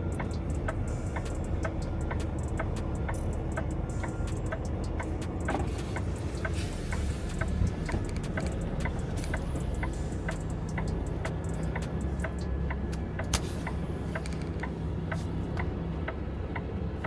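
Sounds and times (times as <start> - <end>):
diesel engine running low: 0.0 - 17.0.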